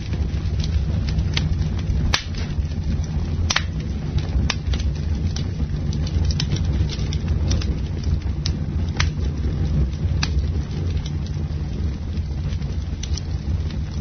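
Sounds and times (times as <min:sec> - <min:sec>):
campfire flame rumble: 0:00.0 - 0:14.0
wood crackling and popping: 0:00.0 - 0:14.0.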